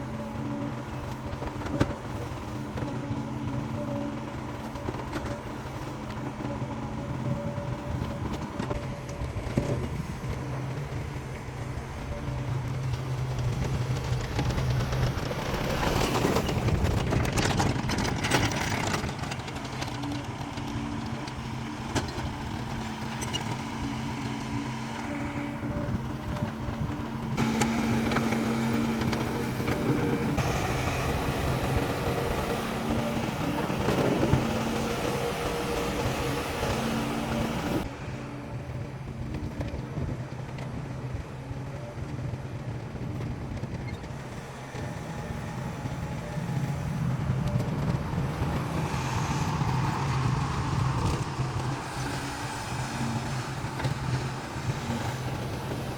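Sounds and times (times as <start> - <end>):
diesel construction machinery running: 0.0 - 55.9.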